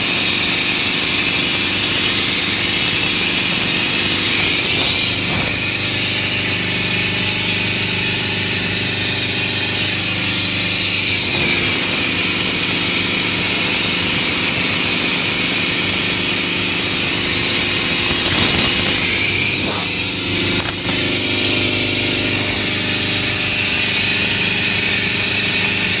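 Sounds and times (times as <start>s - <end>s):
boat diesel engine running: 0.0s - 26.0s.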